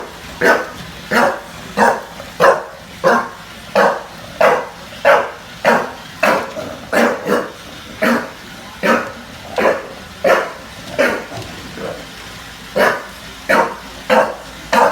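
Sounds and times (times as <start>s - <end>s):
dog barking: 0.4s - 12.0s, 12.8s - 14.9s.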